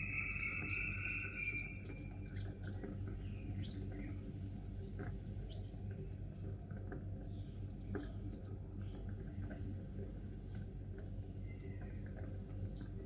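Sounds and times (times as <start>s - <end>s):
sparrows chirping: 0.0s - 6.7s, 7.3s - 9.6s, 10.4s - 13.0s
steady low hum: 0.0s - 13.0s.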